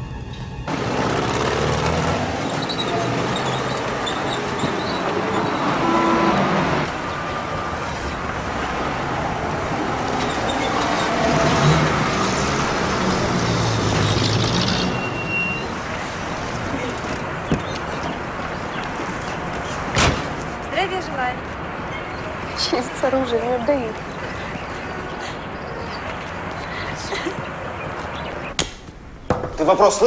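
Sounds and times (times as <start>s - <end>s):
motor vehicles passing: 0.7s - 28.6s.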